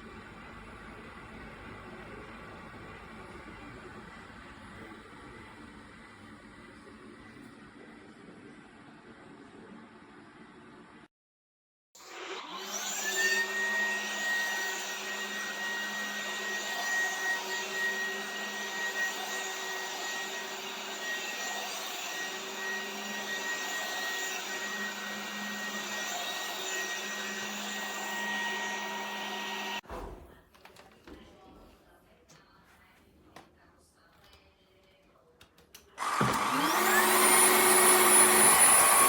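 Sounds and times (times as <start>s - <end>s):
vacuum cleaner motor whine: 0.0s - 11.0s, 12.0s - 29.8s, 36.0s - 39.0s.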